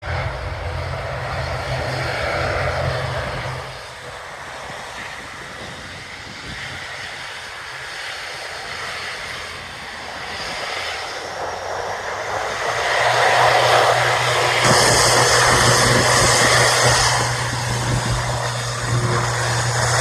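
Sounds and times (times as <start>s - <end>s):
distant aircraft engines rumbling: 0.0s - 20.0s
wind on microphone: 0.1s - 7.4s, 8.6s - 20.0s.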